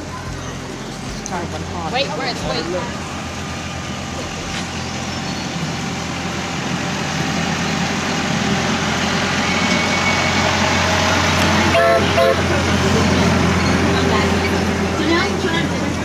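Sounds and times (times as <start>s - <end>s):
small train engine running: 0.0s - 16.0s.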